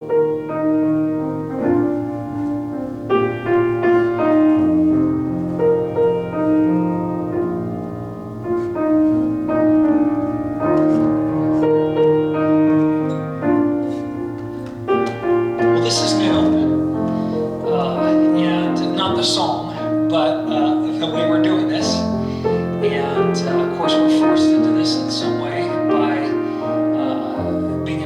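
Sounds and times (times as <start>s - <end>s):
slow gentle solo piano: 0.0s - 28.0s.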